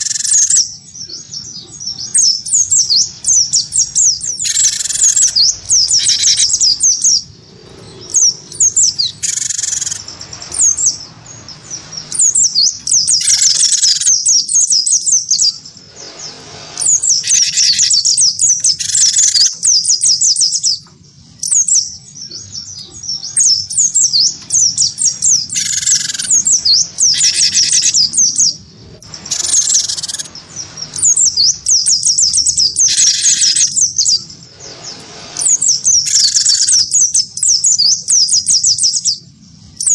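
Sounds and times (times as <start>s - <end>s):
birds twittering: 0.0s - 39.9s
harsh buzzy bird calls: 0.0s - 39.9s.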